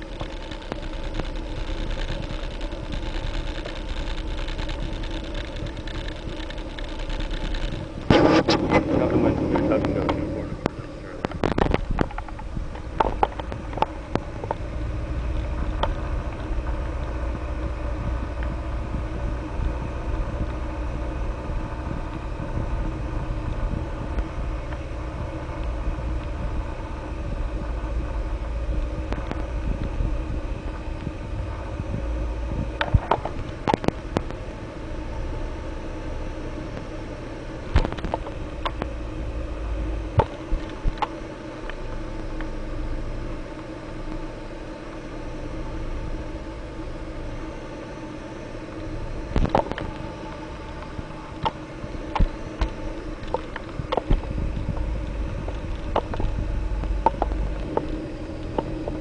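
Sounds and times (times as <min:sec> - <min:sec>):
aircraft engine and propeller droning: 0:00.0 - 0:59.0.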